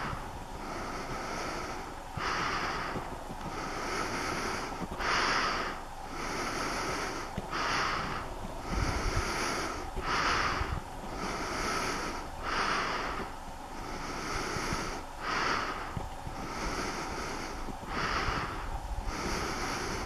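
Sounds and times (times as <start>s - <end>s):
person breathing through nose: 0.0s - 20.0s.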